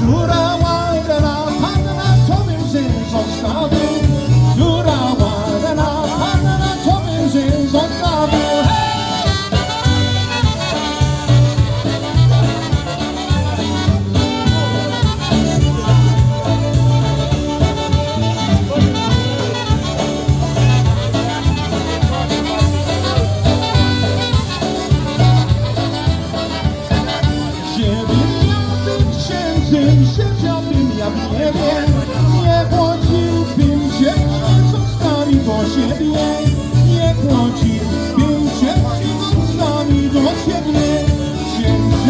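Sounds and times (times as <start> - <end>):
polka band playing: 0.0 - 42.0.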